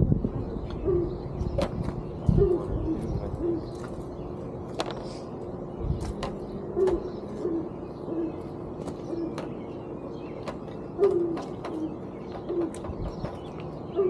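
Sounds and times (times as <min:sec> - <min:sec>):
dove cooing: 0:00.3 - 0:04.1, 0:06.0 - 0:14.0.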